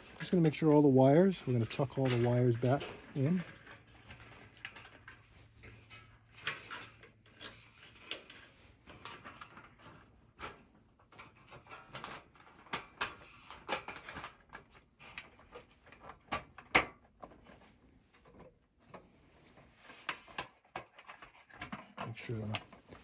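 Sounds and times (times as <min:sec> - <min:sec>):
light clicks taps and rustles: 0:00.0 - 0:23.0.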